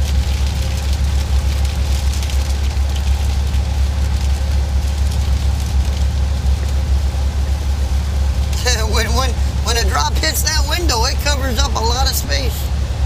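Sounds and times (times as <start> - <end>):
truck engine and road noise drone: 0.0 - 13.0.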